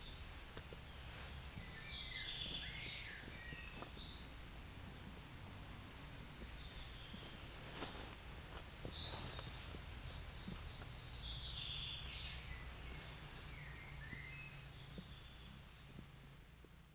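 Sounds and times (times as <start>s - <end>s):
birds singing and chirping: 0.0s - 4.4s, 6.1s - 16.0s
steady low rumble: 0.0s - 16.9s.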